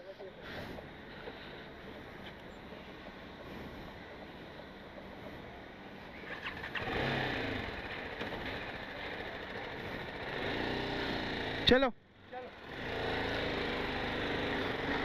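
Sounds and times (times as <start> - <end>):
motorcycle engine idling: 0.8 - 15.0.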